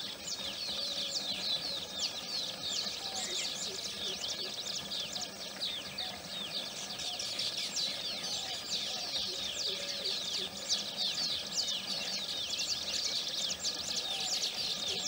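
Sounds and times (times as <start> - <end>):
lower bird calls: 0.0 - 15.0
weaver birds chattering: 0.0 - 15.0.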